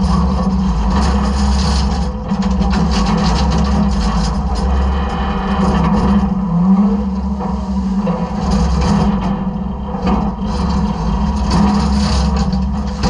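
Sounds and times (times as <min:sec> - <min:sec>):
garbage truck engine and hydraulics: 0:00.0 - 0:13.0.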